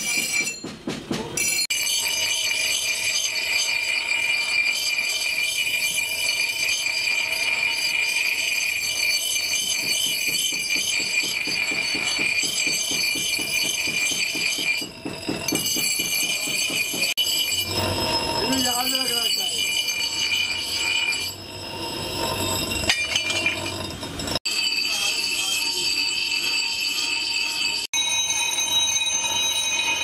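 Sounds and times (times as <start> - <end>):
bench grinder grinding metal: 1.7 - 30.0.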